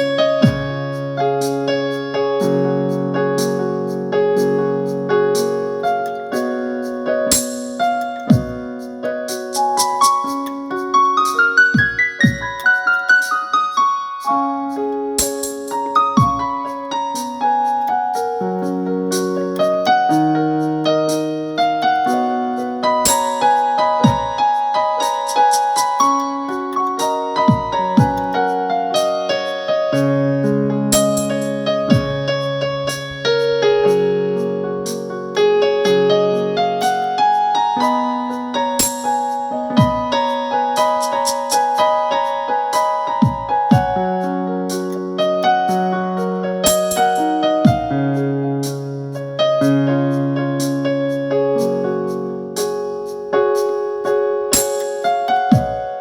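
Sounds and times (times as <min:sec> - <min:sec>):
electric piano melody: 0:00.0 - 0:56.0.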